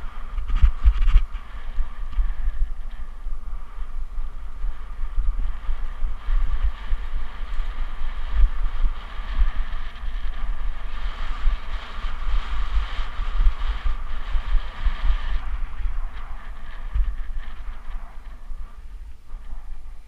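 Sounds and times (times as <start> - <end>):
faint bike whine: 0.0 - 20.0
wind buffeting microphone: 0.0 - 20.0.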